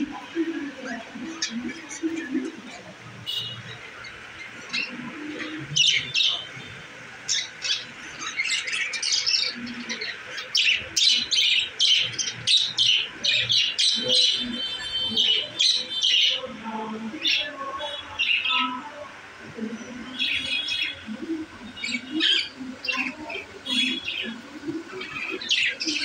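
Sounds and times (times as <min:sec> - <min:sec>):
budgerigars chattering and squawking: 0:00.0 - 0:16.5, 0:19.7 - 0:26.0.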